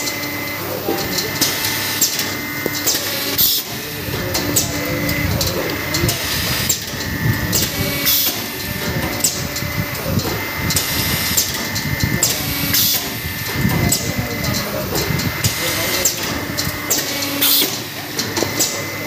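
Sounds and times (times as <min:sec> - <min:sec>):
machine whine and clatter: 0:00.0 - 0:19.0
air hissing: 0:00.6 - 0:18.8.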